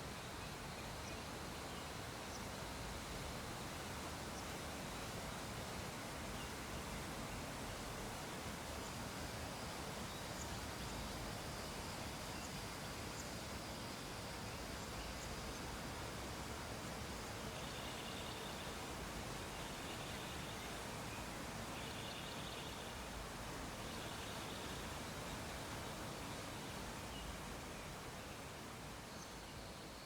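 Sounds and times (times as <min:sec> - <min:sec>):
room and microphone hiss: 0:00.0 - 0:30.0.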